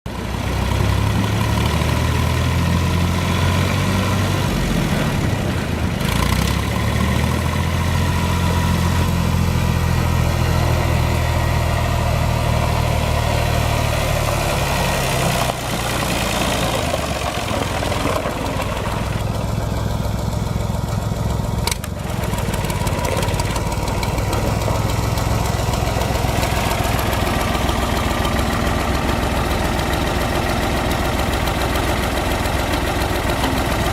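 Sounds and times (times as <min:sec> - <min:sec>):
diesel tractor engine idling: 0:00.1 - 0:33.9.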